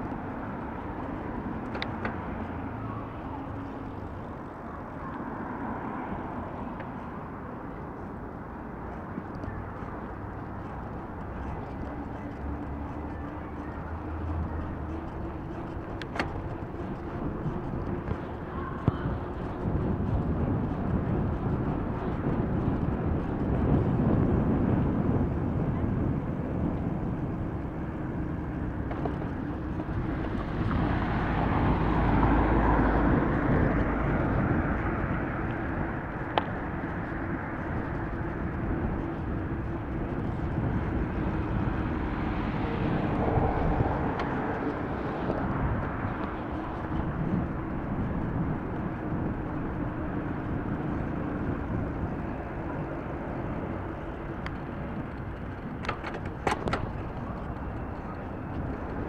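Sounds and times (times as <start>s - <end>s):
street traffic rumble: 0.0s - 59.0s
wind buffeting microphone: 0.0s - 59.0s
tyre noise: 6.6s - 59.0s.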